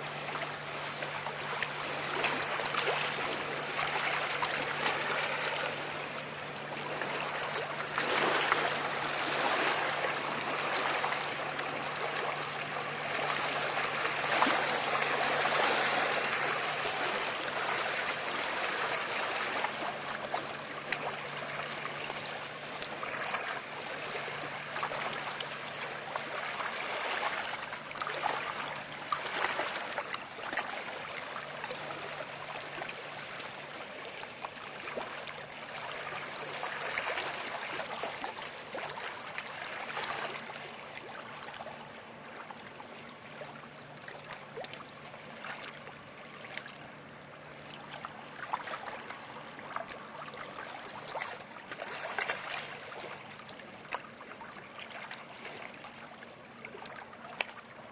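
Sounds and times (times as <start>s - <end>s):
river water splashing: 0.0s - 57.9s.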